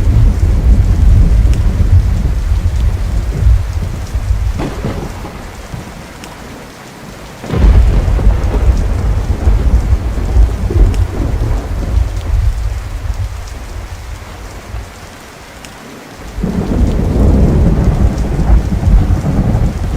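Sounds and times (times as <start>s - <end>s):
sharp thunderclap: 0.0s - 6.1s, 7.4s - 13.9s, 16.4s - 19.9s
thunder rumbling: 0.0s - 6.6s, 7.4s - 15.0s, 16.2s - 19.9s
steady rain: 0.0s - 19.9s.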